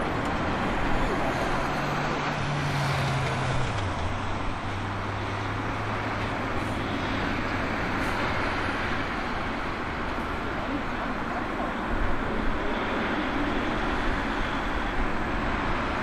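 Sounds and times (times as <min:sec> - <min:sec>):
jet engines taxiing: 0:00.0 - 0:16.0.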